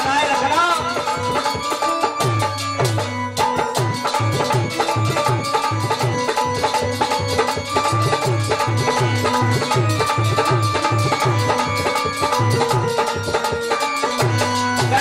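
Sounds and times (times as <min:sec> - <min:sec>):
hand drum beating: 0:00.0 - 0:15.0
held melody notes: 0:00.0 - 0:15.0.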